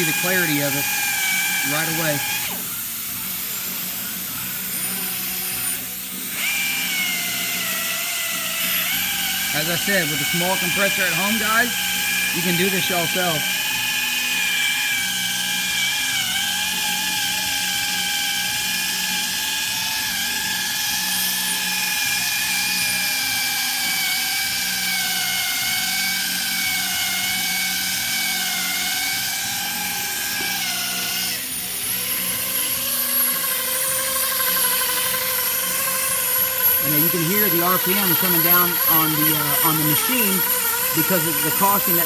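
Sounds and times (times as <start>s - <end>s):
air polisher whine: 0.0s - 42.0s.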